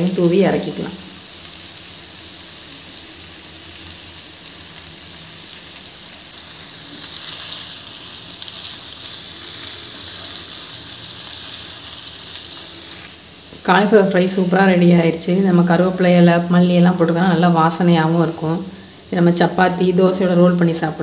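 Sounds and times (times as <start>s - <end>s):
cauliflower sizzling in frying pan: 0.0s - 21.0s.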